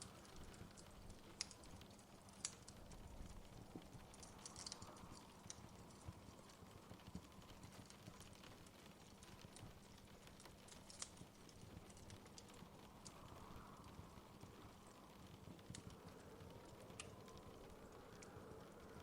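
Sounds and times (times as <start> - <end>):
steady low hiss: 0.0 - 19.0
wood fire crackling: 0.0 - 19.0.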